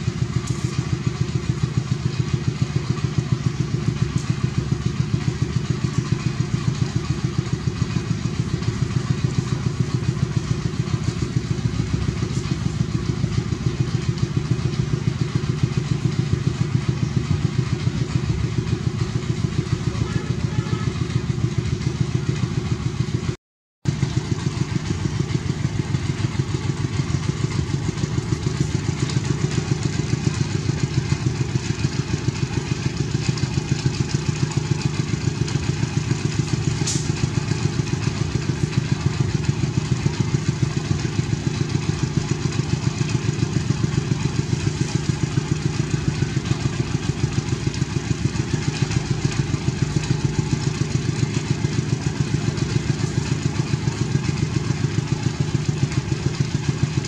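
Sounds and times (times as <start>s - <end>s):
small engine running: 0.0s - 23.3s, 23.9s - 57.0s.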